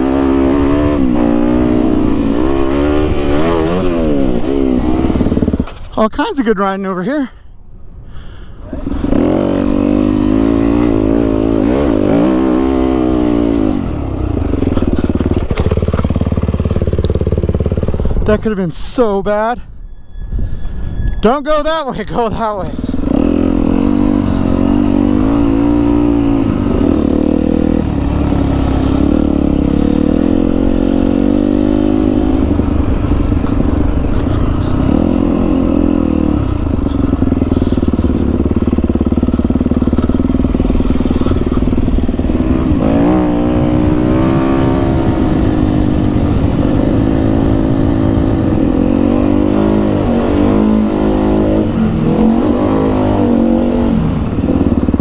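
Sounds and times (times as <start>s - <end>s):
dirt bike engine revving: 0.0s - 6.0s, 8.7s - 18.4s, 22.6s - 55.0s.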